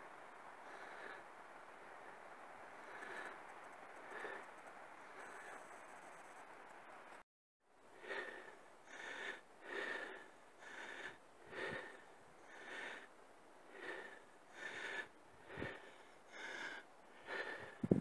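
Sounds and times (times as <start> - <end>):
quick breathing close to microphone: 0.6 - 1.3, 1.9 - 6.4, 8.0 - 18.0.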